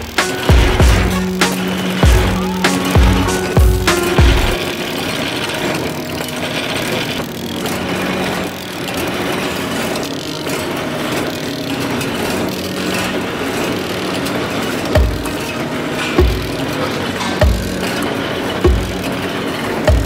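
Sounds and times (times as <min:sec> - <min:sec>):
wire making machine droning: 0:00.0 - 0:20.0.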